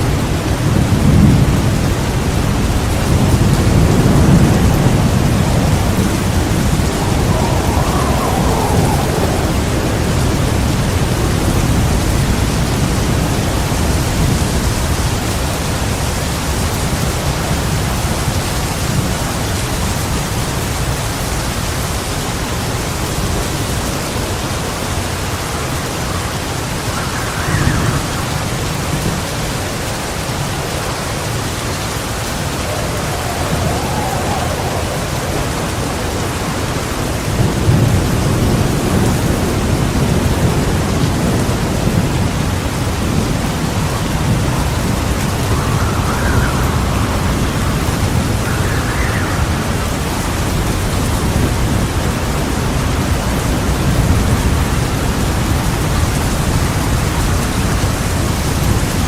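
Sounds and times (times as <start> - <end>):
heavy rain pouring: 0.0 - 59.0
rolling thunder: 0.0 - 59.0.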